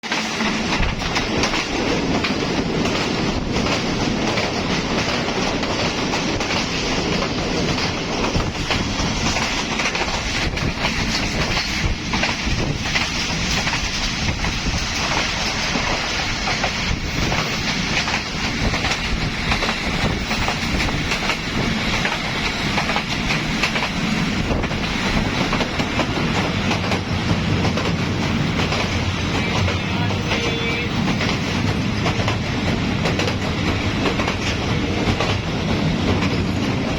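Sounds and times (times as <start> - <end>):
train wheels rumbling on track: 0.0 - 36.9
wheels clickety-clack over rail joints: 0.0 - 36.9.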